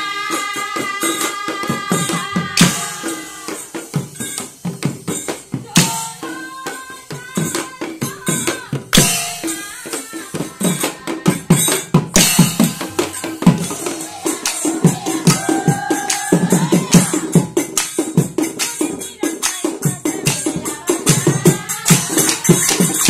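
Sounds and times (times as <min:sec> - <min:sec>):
women singing together: 0:00.0 - 0:04.0, 0:05.6 - 0:23.0
drums and percussion: 0:00.0 - 0:23.0.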